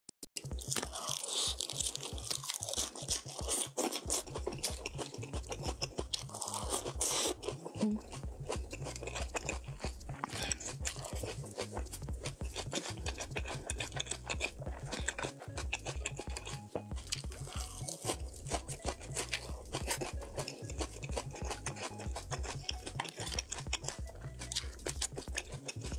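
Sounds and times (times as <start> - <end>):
chewing crisp lettuce: 0.4 - 25.9
wet mouth clicks: 2.8 - 25.9.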